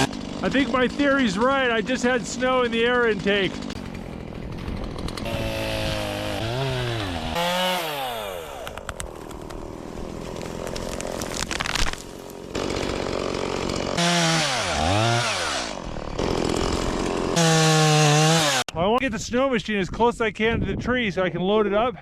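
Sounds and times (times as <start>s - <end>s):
chainsaw revving: 0.0s - 18.7s.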